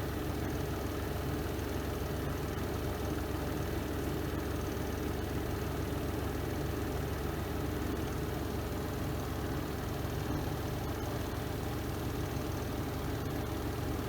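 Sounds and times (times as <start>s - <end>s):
washing machine spin hum: 0.0s - 14.0s.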